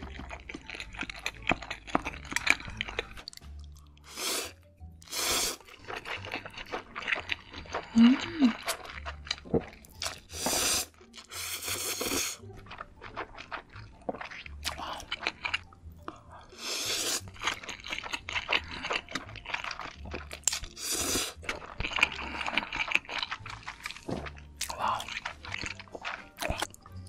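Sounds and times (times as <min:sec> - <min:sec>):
wet chewing: 0:00.0 - 0:27.0
slurping noodles: 0:04.0 - 0:15.6, 0:16.4 - 0:26.8.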